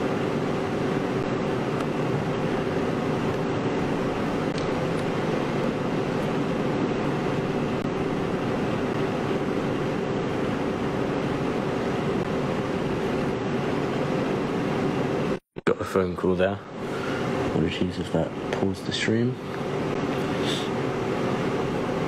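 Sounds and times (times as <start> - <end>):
faint constant hum: 0.0 - 22.0
steady mechanical drone: 0.0 - 22.0.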